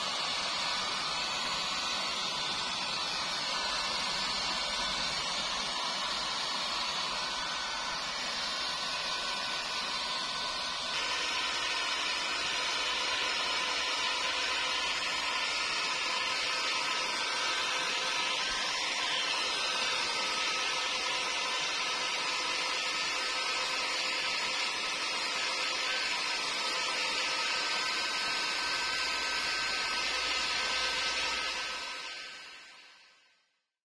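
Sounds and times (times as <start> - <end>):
electric blower motor whirring: 0.0 - 33.1.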